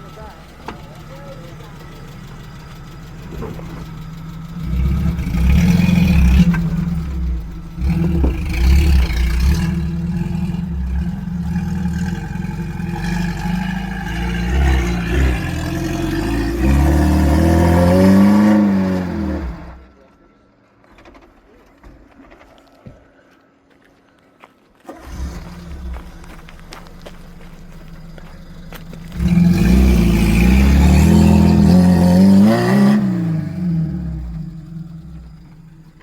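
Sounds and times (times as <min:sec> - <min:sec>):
off-road vehicle engine revving: 0:00.0 - 0:19.9, 0:24.9 - 0:36.0.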